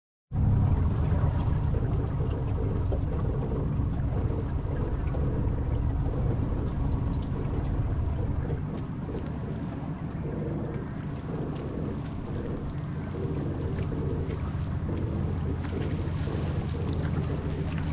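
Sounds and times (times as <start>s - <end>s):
outboard motor running: 0.3s - 17.9s.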